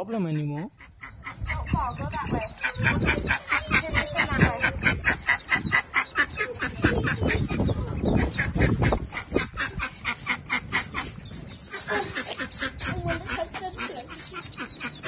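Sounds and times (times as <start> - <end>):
ducks quacking rapidly: 0.0 - 15.0.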